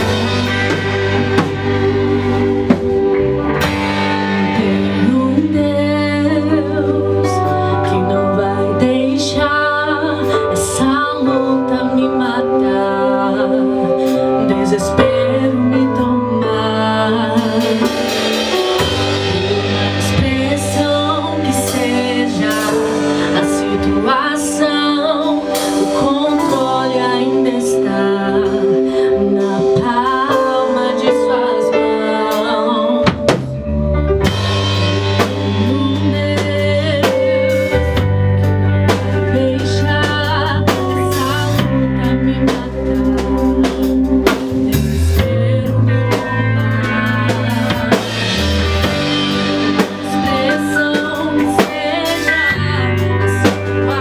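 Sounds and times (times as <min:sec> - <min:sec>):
drum kit: 0:00.0 - 0:12.7, 0:13.9 - 0:54.0
bass: 0:00.0 - 0:54.0
gospel band playing and singing: 0:00.0 - 0:54.0
lead vocal: 0:00.0 - 0:54.0.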